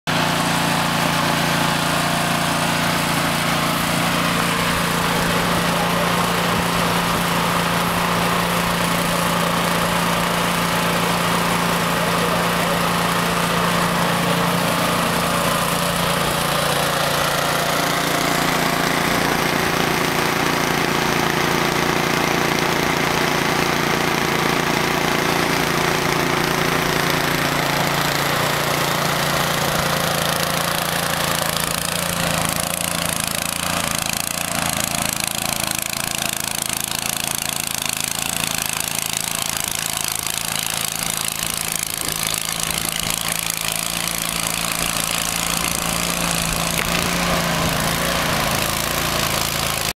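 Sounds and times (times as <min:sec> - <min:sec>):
snowblower engine running: 0:00.0 - 0:49.9
auger whirring: 0:00.1 - 0:49.9.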